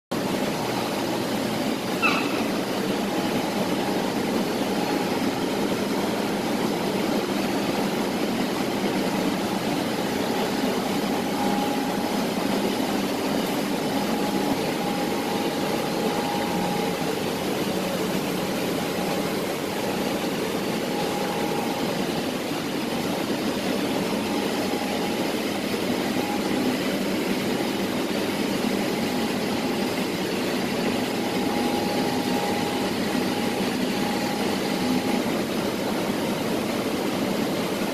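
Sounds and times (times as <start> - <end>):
frying machine mechanical drone: 0.1 - 37.9.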